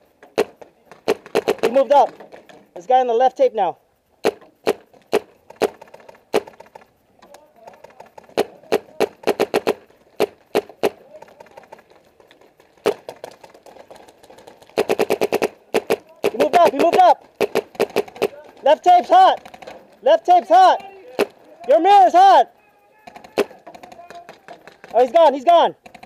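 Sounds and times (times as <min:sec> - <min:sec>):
paintball markers firing: 0:00.1 - 0:02.9, 0:04.1 - 0:26.0.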